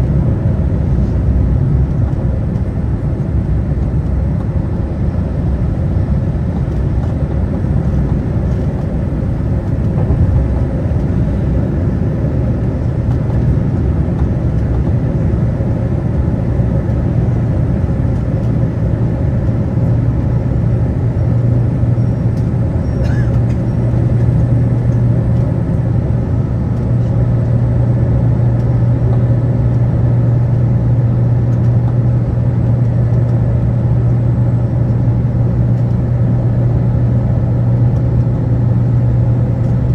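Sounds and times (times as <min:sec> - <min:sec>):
airliner engine and airflow rumble: 0:00.0 - 0:39.9
low hum: 0:00.0 - 0:39.9.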